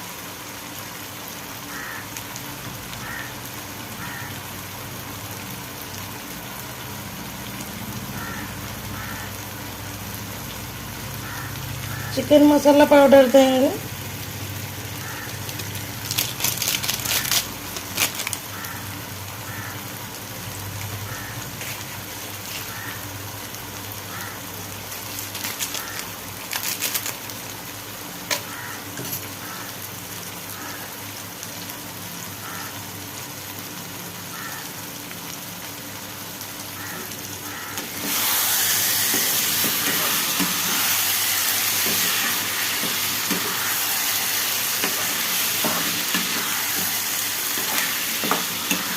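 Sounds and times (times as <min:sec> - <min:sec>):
food sizzling in a pan: 0:00.0 - 0:48.9.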